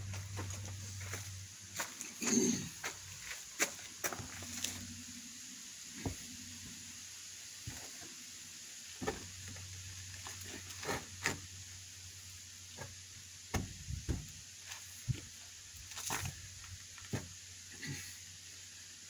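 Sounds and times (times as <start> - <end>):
steady high outdoor hiss: 0.0 - 19.0.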